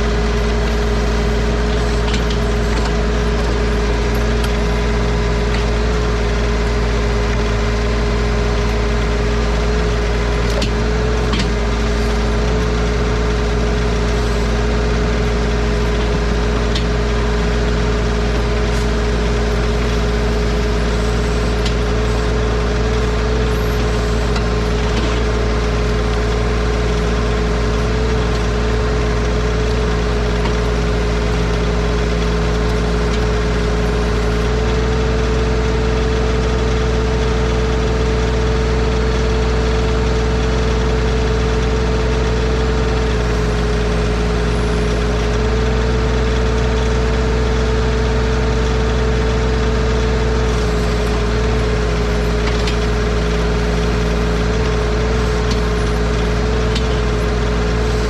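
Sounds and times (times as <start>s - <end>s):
constant whine: 0.0s - 58.0s
diesel tractor engine running: 0.0s - 58.0s.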